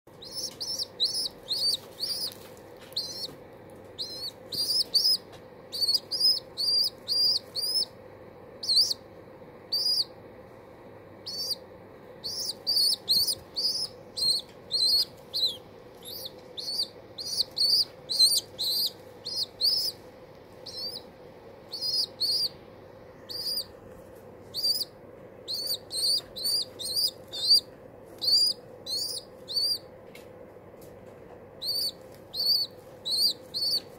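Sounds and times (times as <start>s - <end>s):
baby pigeon squeaking: 0.1s - 8.0s, 8.6s - 9.1s, 9.7s - 10.2s, 11.2s - 22.6s, 23.2s - 23.8s, 24.4s - 30.2s, 31.6s - 33.9s.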